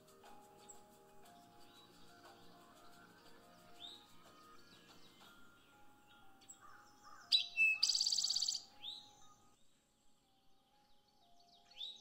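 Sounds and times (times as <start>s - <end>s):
bird singing with ringing trill: 0.0s - 9.6s, 10.4s - 12.0s.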